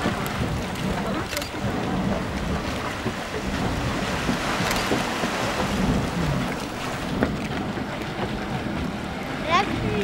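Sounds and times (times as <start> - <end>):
boiling water surging and sloshing: 0.0 - 10.0
steady low churning: 0.0 - 10.0.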